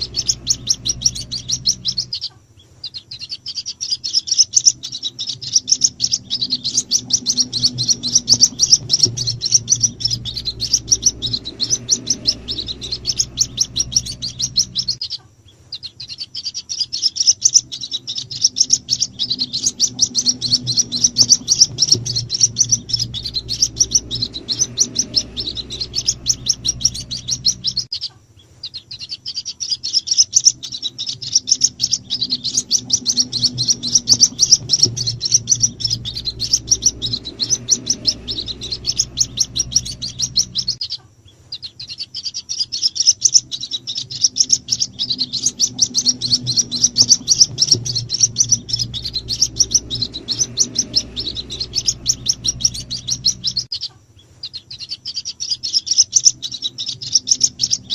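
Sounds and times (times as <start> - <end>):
low hum: 0.0 - 53.7, 56.0 - 57.9
bird chicks cheeping: 0.0 - 57.9.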